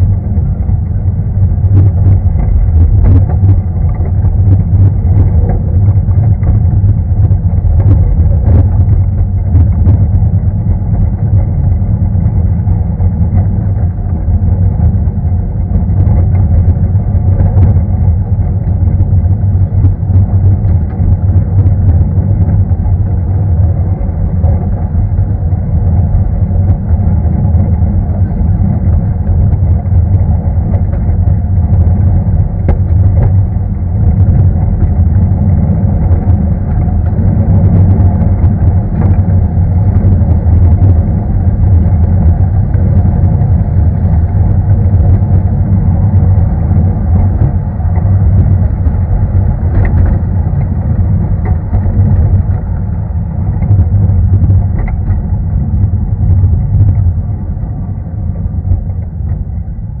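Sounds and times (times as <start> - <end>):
train coaches rumbling on track: 0.0 - 60.0
wheel and rail clicks: 0.0 - 60.0.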